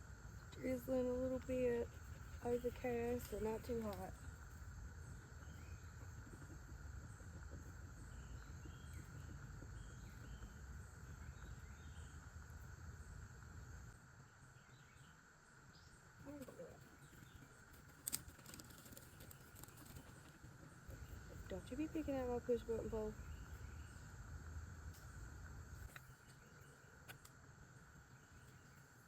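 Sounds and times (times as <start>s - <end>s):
high insect chorus: 0.0s - 29.0s.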